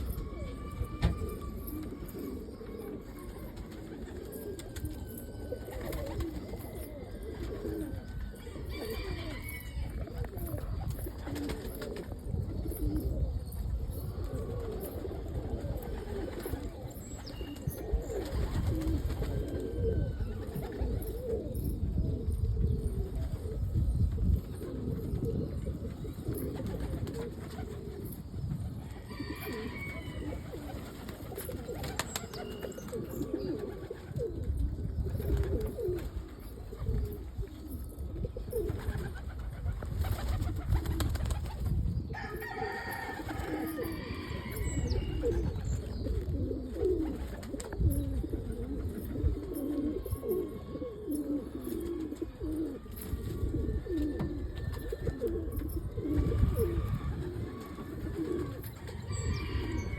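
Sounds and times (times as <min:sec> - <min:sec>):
pigeons cooing: 0:00.0 - 0:59.9.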